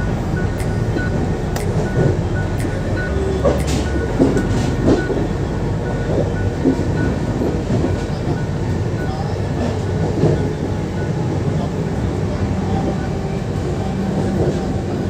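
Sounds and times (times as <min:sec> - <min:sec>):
train rumble from inside coach: 0:00.0 - 0:15.0.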